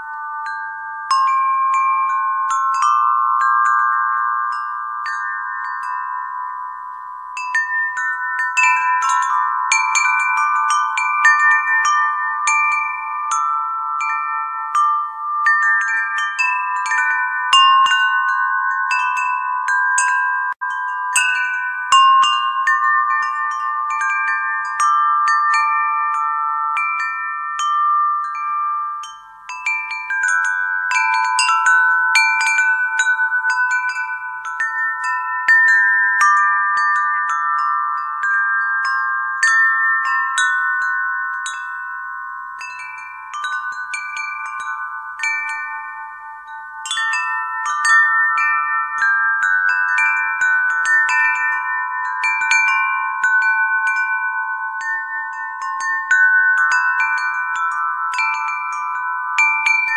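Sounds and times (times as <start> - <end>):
wind chimes ringing: 0.0 - 59.9.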